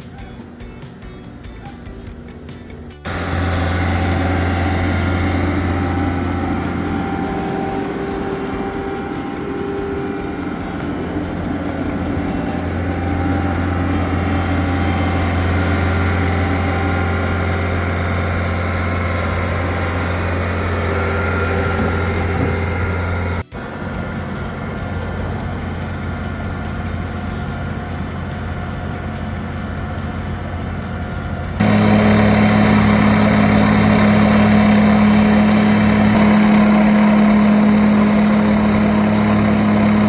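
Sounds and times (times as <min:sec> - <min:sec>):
earthmoving equipment engine humming: 0:00.0 - 0:40.0.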